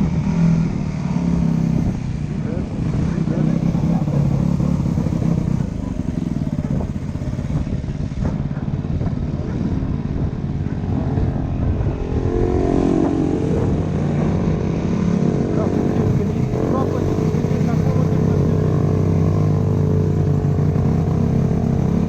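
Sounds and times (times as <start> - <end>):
dirt bike engine revving: 0.0 - 8.4, 9.0 - 22.0.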